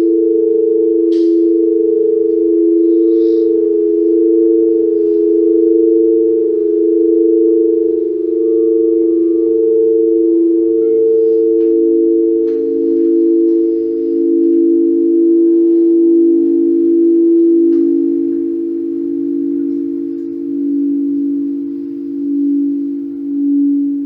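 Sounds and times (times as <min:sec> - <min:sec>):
singing bowls ringing: 0:00.0 - 0:24.0.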